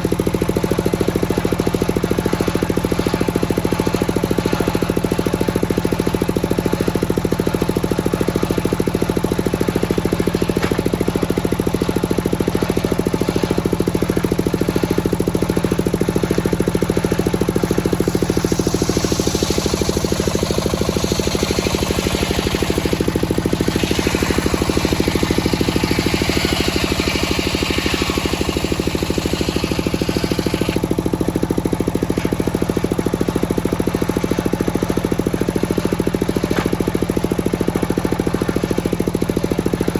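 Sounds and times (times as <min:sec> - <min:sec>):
circular saw cutting log: 0:00.0 - 0:39.9
sawmill engine pulsing: 0:00.0 - 0:39.9.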